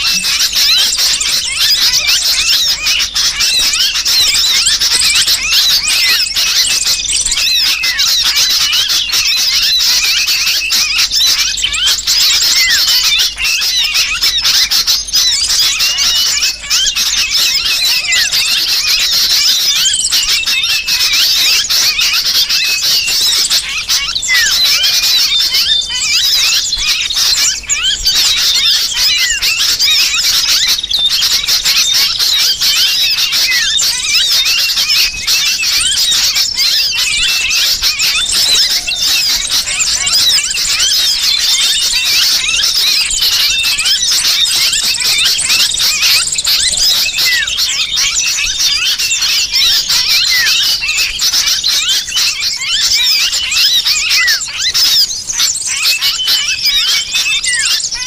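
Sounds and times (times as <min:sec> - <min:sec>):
bird distress calls: 0:00.0 - 0:58.0
small birds chirping and squeaking: 0:00.0 - 0:58.0.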